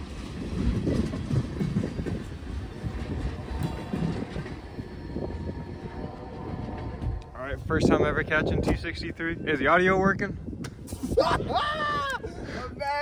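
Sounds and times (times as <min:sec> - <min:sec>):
freight train wheels rumbling on rails: 0:00.0 - 0:10.8.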